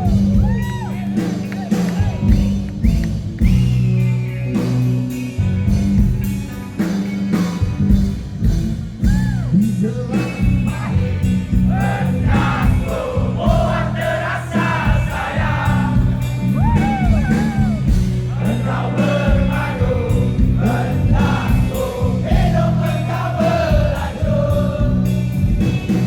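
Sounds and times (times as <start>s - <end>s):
drums: 0.0s - 26.0s
live rock band: 0.0s - 26.0s.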